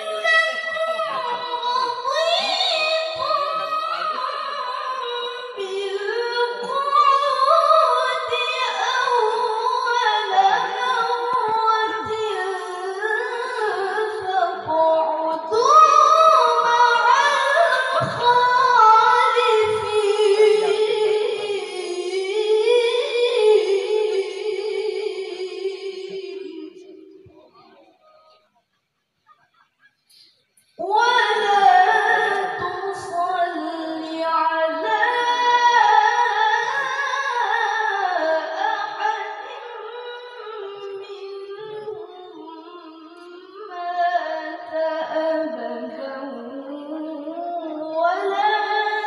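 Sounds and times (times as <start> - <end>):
woman reciting melodically: 0.0 - 27.7, 30.1 - 49.0.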